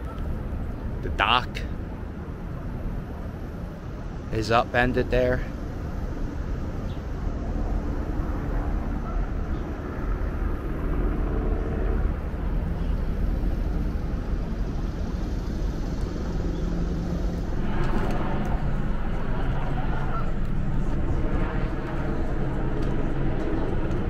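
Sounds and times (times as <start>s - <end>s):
distant engine rumble: 0.0s - 24.0s.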